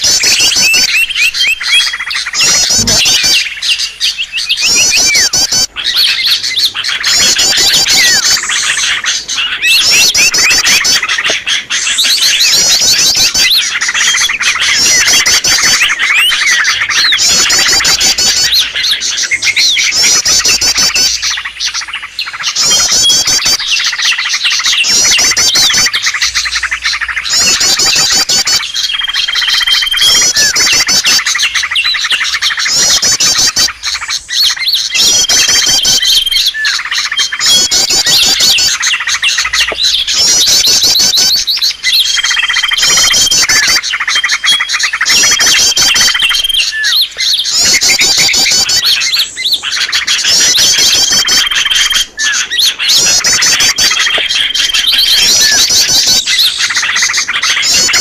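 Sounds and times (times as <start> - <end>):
drawn-out bird whistle: 0.0 - 58.0
songbirds chirping and trilling: 0.0 - 58.0.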